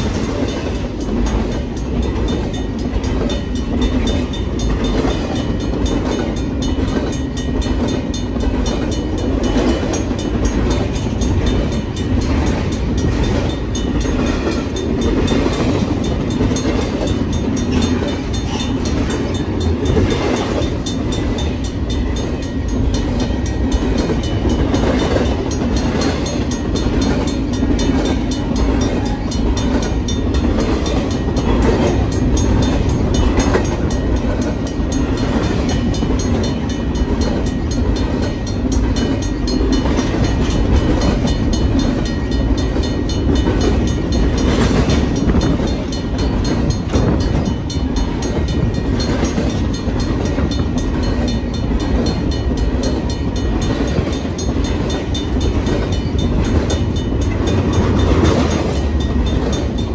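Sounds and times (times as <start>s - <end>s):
steel wheels rolling on rail: 0.0s - 59.9s
train cars clanking: 0.0s - 59.9s.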